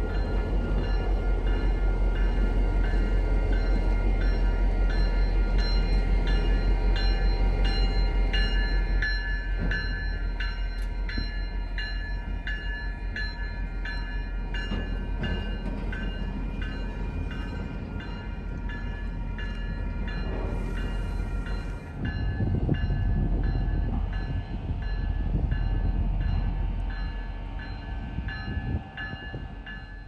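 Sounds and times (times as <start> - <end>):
crossing warning bell ringing: 0.0 - 30.0
diesel locomotive engine rumble: 0.0 - 30.0.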